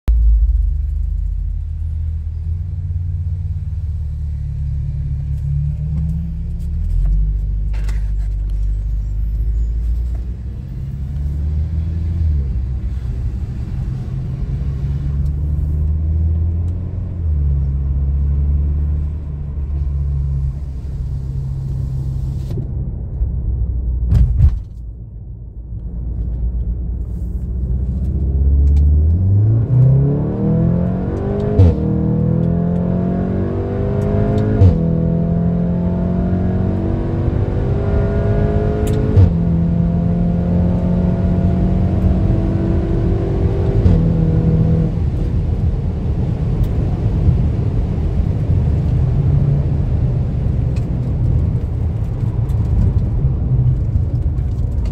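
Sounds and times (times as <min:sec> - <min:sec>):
road rumble: 0:00.0 - 0:54.9
car engine droning: 0:00.1 - 0:54.9.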